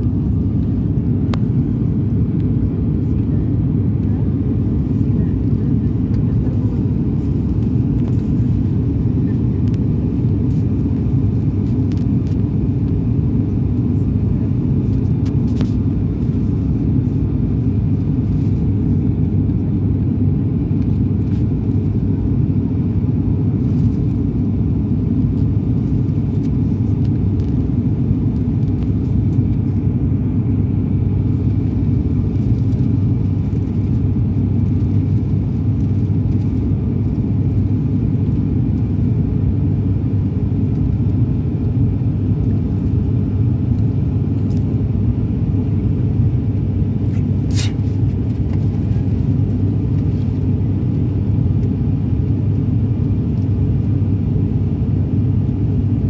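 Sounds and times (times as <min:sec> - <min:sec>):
vehicle rumble from inside cabin: 0:00.0 - 0:56.0.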